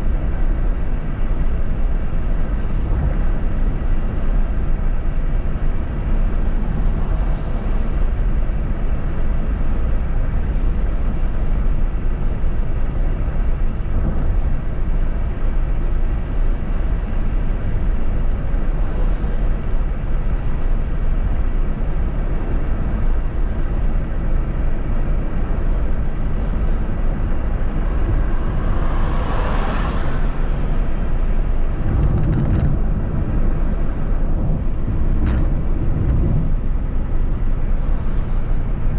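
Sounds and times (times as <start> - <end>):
vehicle road and wind noise: 0.0 - 38.9.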